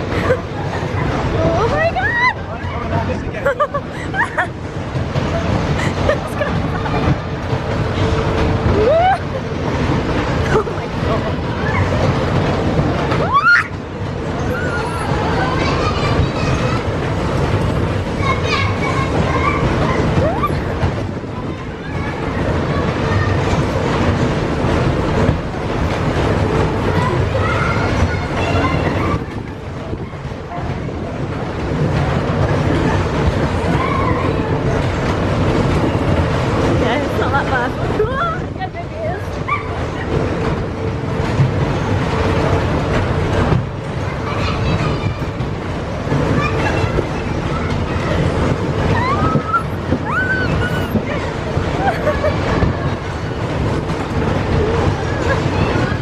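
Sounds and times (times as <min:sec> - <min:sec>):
ride rumbling: 0:00.0 - 0:56.0
steady hum: 0:00.0 - 0:56.0
wind buffeting microphone: 0:00.0 - 0:56.0.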